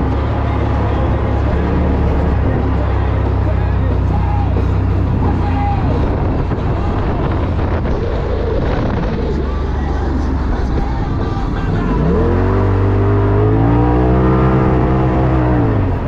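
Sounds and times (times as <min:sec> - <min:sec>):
rough road noise: 0:00.0 - 0:16.0
turbocharged engine revving: 0:00.0 - 0:16.0.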